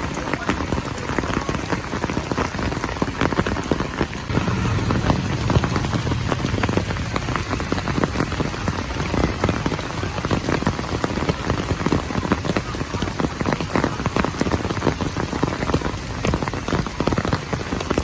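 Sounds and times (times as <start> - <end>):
raindrops striking hard surfaces: 0.0 - 18.0
steady rain falling: 0.0 - 18.0.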